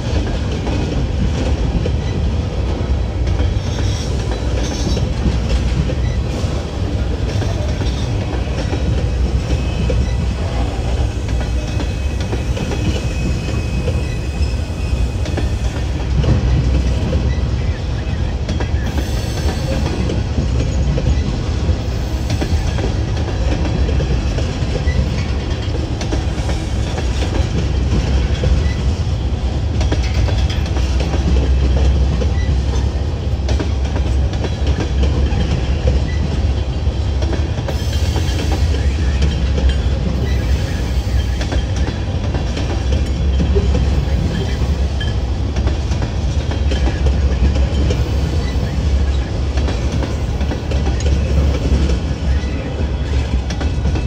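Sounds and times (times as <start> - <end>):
freight train cars rumbling: 0.0 - 54.0.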